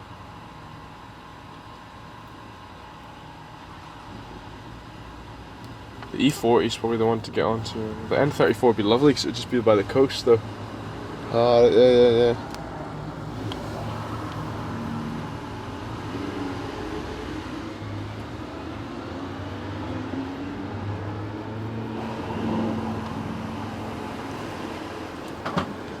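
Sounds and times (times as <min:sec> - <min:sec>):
car road and engine drone: 0:00.0 - 0:26.0.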